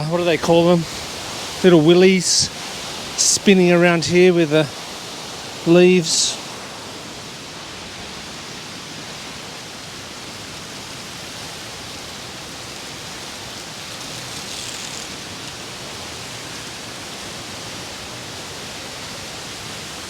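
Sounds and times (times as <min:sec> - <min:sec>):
strong gusty wind: 0:00.0 - 0:20.0.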